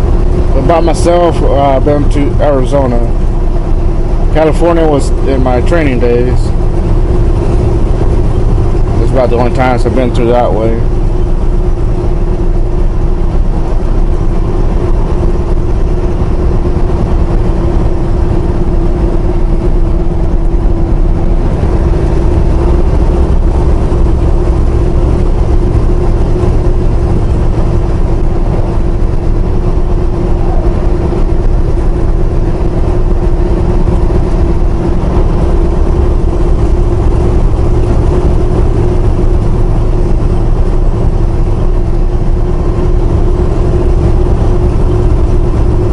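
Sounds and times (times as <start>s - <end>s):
truck engine and road noise drone: 0.0s - 45.9s.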